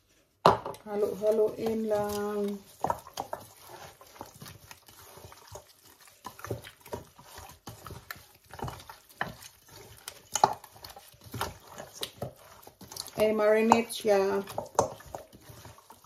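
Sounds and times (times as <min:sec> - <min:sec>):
wet squelches of meat mixing: 0:00.8 - 0:16.0.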